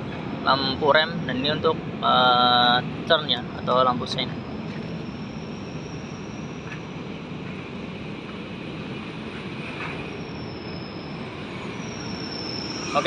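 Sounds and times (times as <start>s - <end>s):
faint high whine: 0.0s - 13.0s
vehicle engine drone: 0.0s - 13.0s.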